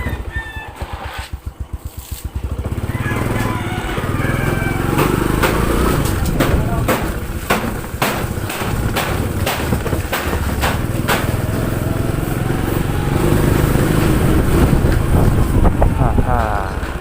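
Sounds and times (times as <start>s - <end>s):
motorcycle running: 0.0s - 17.0s.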